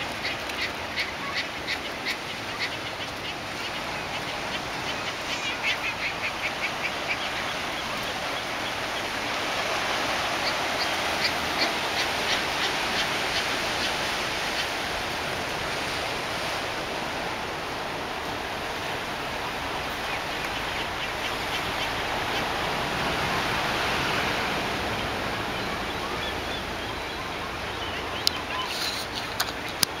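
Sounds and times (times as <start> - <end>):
surf washing on rocks: 0.0 - 30.0.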